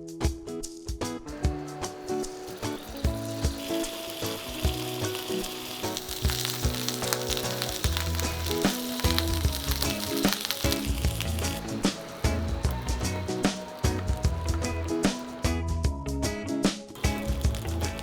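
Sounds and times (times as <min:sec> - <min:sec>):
food sizzling in hot oil: 0:01.6 - 0:15.5, 0:17.0 - 0:18.0.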